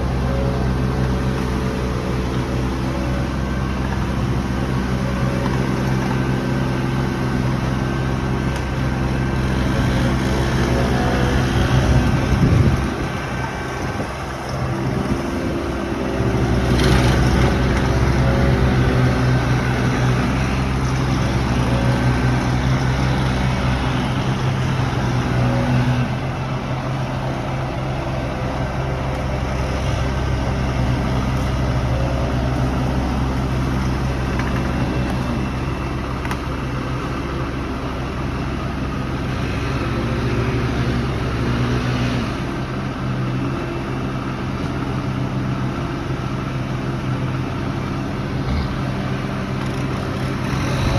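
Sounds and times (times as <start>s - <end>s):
large engine running under load: 0.0s - 50.9s.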